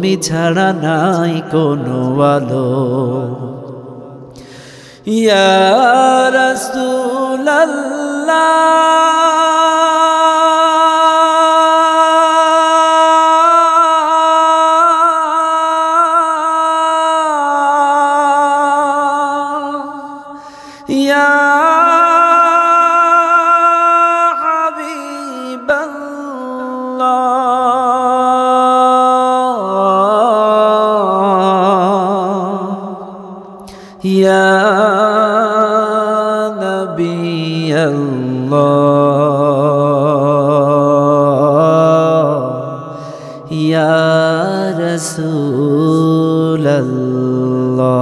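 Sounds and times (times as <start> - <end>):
man singing devotional song: 0.0 - 48.0.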